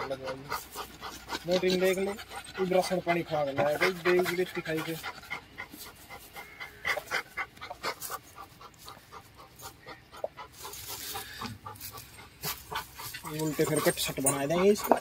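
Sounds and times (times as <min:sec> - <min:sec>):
dog panting fast: 0:00.0 - 0:15.0.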